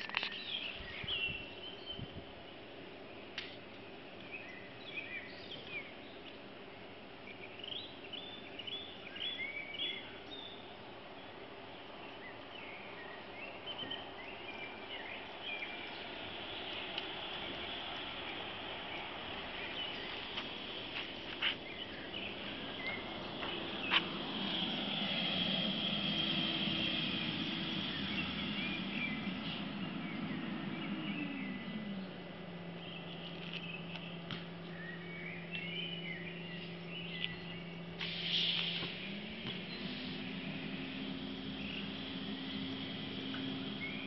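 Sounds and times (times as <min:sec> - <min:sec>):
small birds chirping: 0:00.0 - 0:44.0
trolleybus hum: 0:00.0 - 0:44.0
traffic noise: 0:04.8 - 0:44.0.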